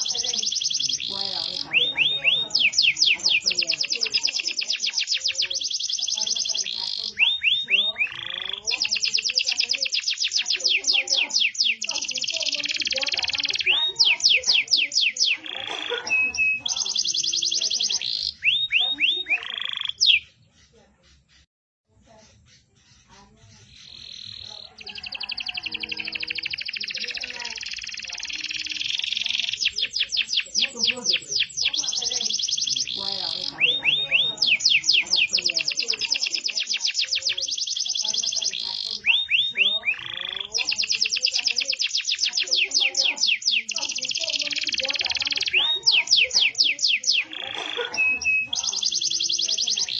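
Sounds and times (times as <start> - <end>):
canary singing: 0.0 - 49.9.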